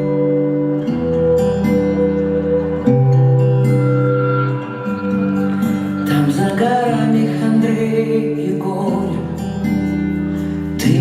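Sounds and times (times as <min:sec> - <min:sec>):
instrumental pop music with guitar: 0:00.0 - 0:11.0.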